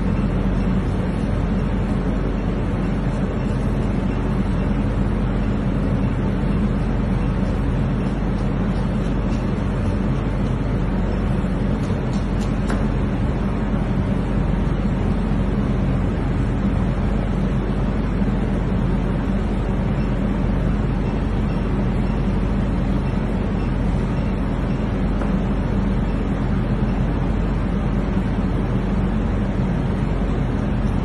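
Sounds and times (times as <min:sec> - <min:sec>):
machine hum and rumble: 0:00.0 - 0:31.0.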